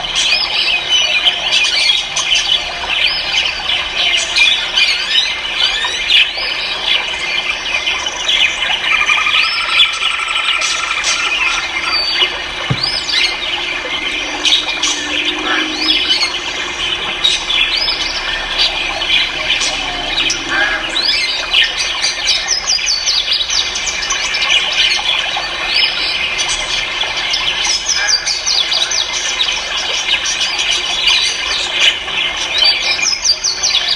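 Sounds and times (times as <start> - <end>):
caged birds chirping and squawking: 0.0 - 33.9.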